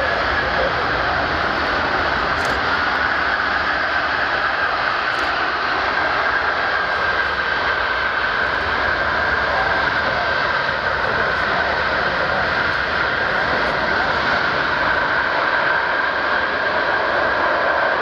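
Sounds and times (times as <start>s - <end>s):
high whine: 0.0s - 18.0s
jet engines running: 0.0s - 18.0s.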